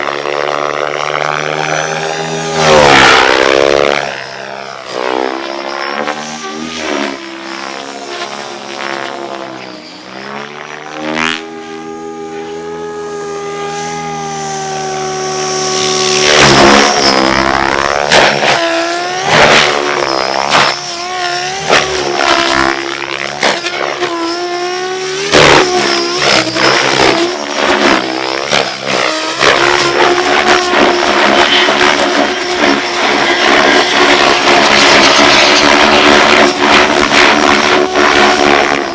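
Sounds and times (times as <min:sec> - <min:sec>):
radio-controlled helicopter drone: 0:00.0 - 0:38.9.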